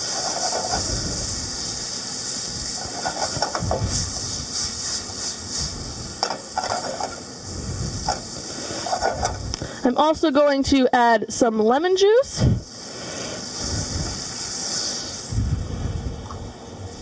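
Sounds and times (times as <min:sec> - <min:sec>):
wine sizzling in a hot pan: 0:00.0 - 0:15.6.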